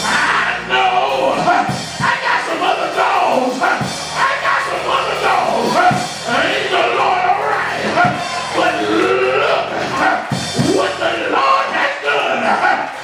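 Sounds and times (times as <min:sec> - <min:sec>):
church band music with drums: 0:00.0 - 0:13.0
congregation calling out: 0:00.0 - 0:13.0
preacher chanting over amplifier: 0:00.0 - 0:13.0.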